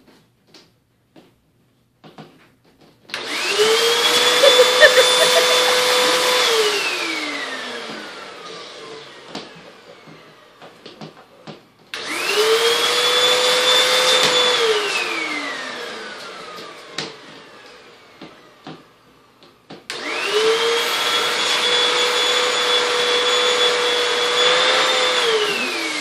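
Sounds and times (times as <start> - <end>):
vacuum cleaner motor whine: 3.2 - 26.0.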